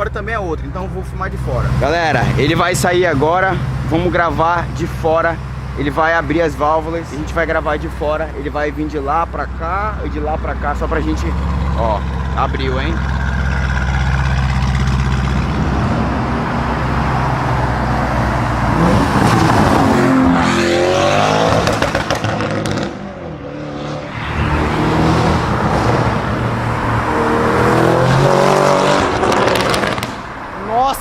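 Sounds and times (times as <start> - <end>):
car engine and exhaust accelerating: 0.0 - 30.6.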